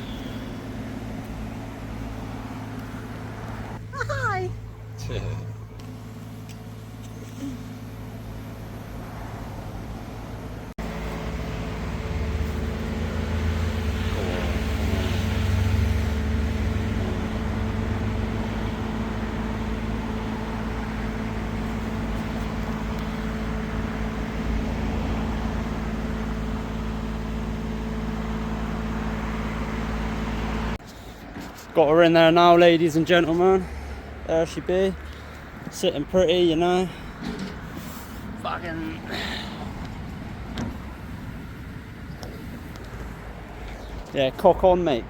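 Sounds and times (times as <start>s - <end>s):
engine rumbling: 0.0s - 45.0s.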